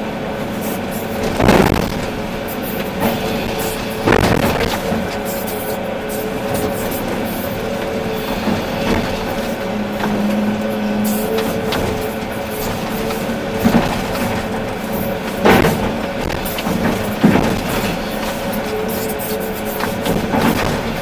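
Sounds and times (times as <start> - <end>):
excavator diesel engine running: 0.0 - 21.0
hydraulic whine: 0.0 - 21.0
machine knocking: 1.0 - 21.0.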